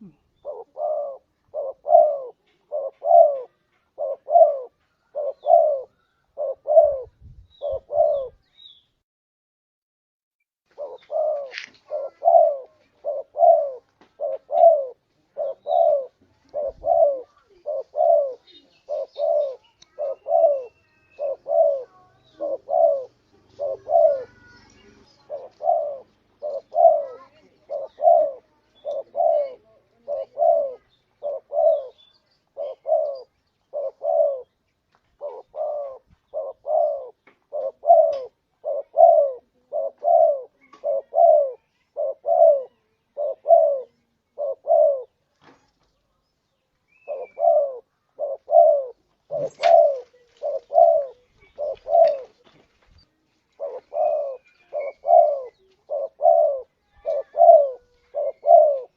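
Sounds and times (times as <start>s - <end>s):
dove cooing: 0.0s - 8.4s, 10.7s - 45.2s, 46.9s - 52.6s, 53.5s - 58.9s.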